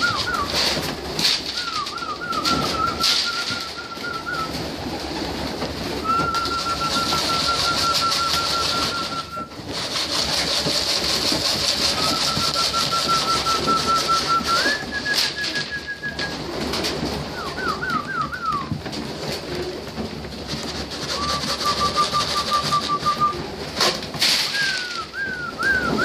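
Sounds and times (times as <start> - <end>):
pigeons cooing: 0.0 - 23.8, 24.5 - 26.0
pigeons pecking grain on concrete: 0.0 - 26.0.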